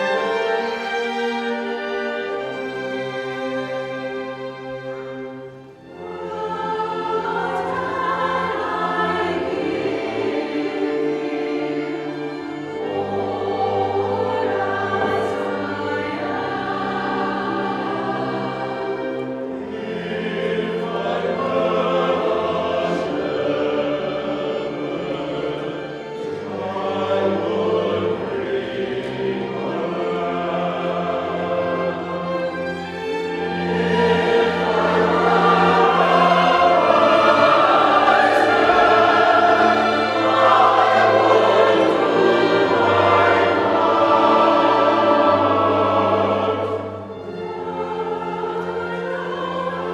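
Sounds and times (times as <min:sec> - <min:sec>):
choir singing: 0:00.0 - 0:49.9
orchestral accompaniment: 0:00.0 - 0:49.9.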